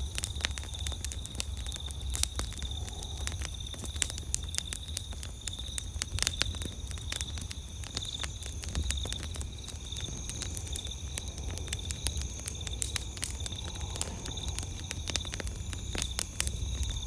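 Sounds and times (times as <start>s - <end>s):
campfire crackling and popping: 0.0s - 17.0s
crickets chirping: 0.0s - 17.0s.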